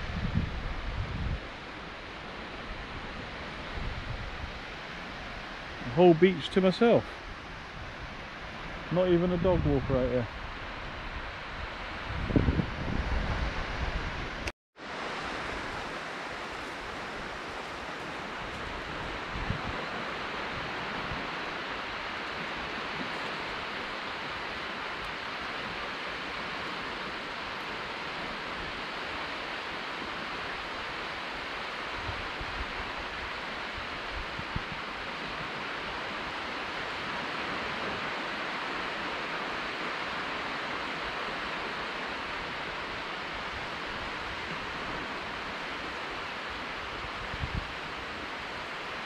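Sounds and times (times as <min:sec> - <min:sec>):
surf washing onto beach: 0:00.0 - 0:49.0.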